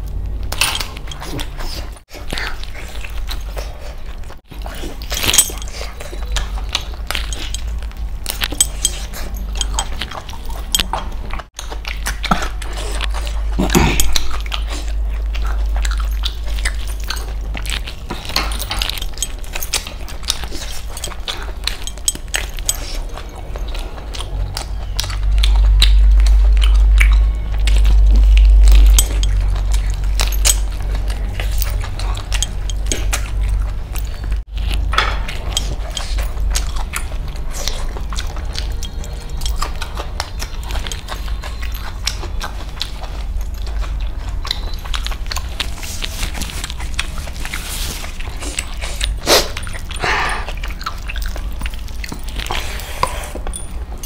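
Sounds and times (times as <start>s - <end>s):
chewing and biting meat: 0.0s - 54.0s
steady low rumble: 6.3s - 54.0s.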